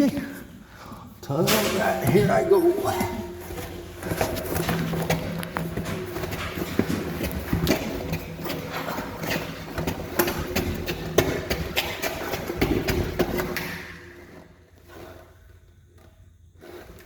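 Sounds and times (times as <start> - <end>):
person moving through tunnel: 0.0 - 17.0.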